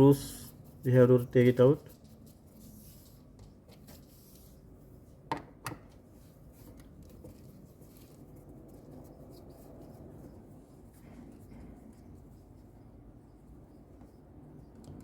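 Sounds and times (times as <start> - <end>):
faint handling noise: 0.5 - 12.7.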